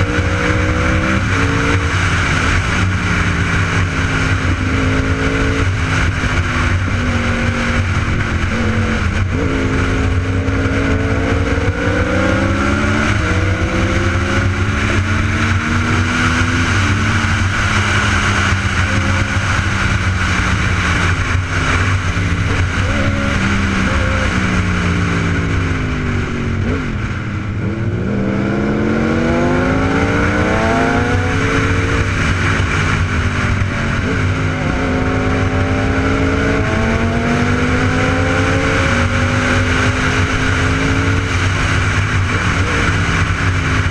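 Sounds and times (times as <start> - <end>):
motorcycle engine accelerating: 0.0 - 43.9
steady rushing noise: 0.0 - 43.9.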